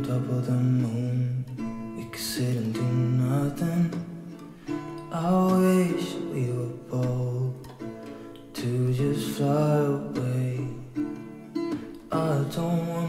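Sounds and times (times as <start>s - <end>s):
acoustic guitar strumming: 0.0s - 13.0s
person singing: 0.0s - 13.0s.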